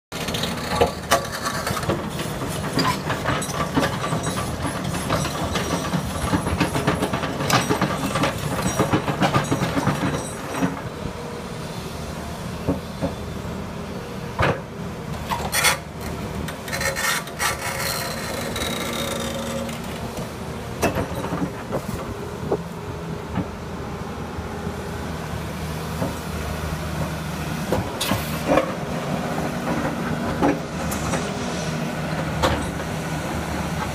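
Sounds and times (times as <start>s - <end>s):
diesel engine under load: 0.1s - 33.9s.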